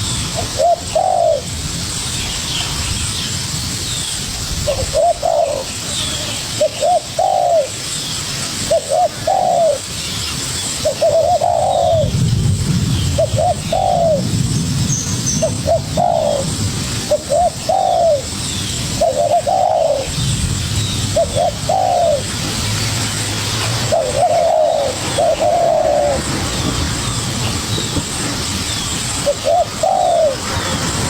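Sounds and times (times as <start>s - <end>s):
doves cooing: 0.4s - 1.6s, 4.6s - 10.0s, 10.7s - 14.5s, 15.4s - 20.2s, 21.0s - 31.0s.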